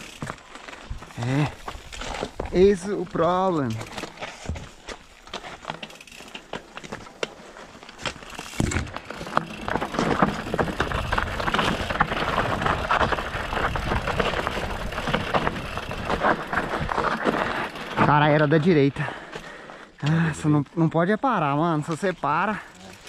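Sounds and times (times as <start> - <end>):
tyres crunching on dirt and stones: 0.0 - 20.2
bike rattling: 0.0 - 20.7, 21.3 - 23.0.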